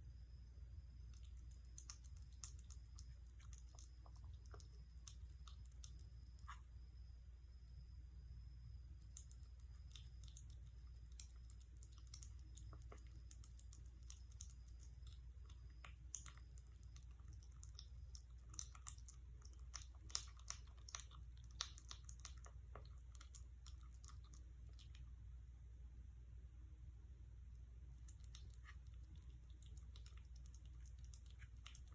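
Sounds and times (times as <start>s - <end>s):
low steady hum: 0.0s - 31.9s
kitten chewing: 0.9s - 6.7s, 8.9s - 25.3s, 27.7s - 31.9s.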